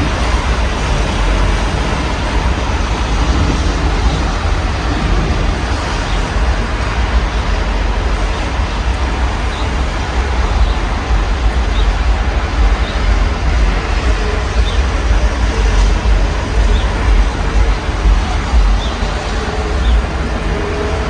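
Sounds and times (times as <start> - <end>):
low rumble of street traffic: 0.0 - 21.0
steady rain: 0.0 - 21.0.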